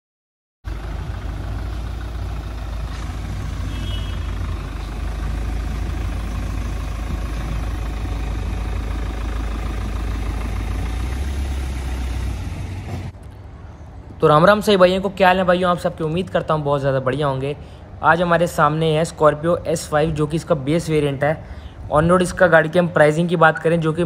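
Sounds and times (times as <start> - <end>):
vehicle engine idling: 0.7 - 24.0.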